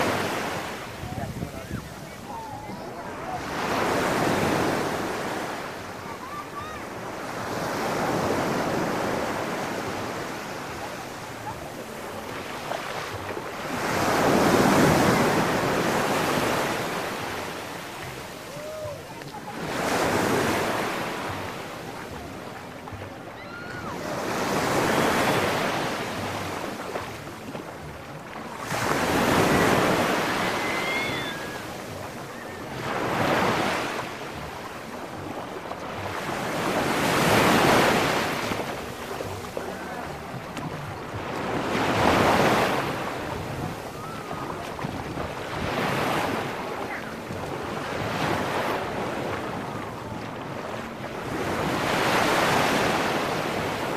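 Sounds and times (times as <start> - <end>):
small waves breaking on beach: 0.0 - 53.9.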